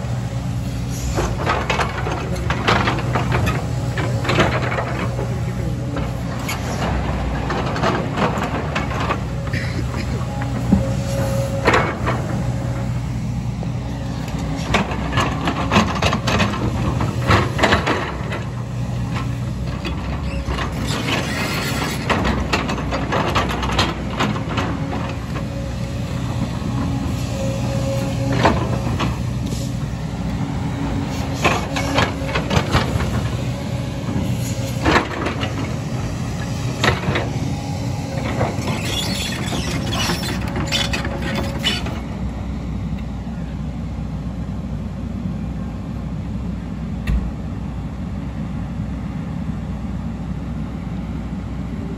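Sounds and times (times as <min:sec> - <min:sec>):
excavator engine running: 0:00.0 - 0:51.9.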